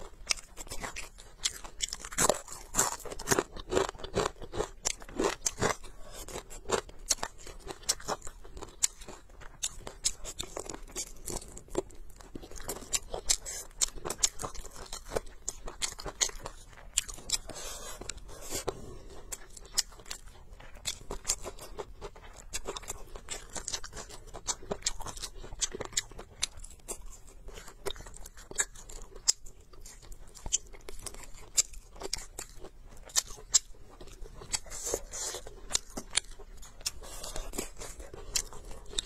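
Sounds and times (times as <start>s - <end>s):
person chewing and crunching food: 0.0s - 39.0s.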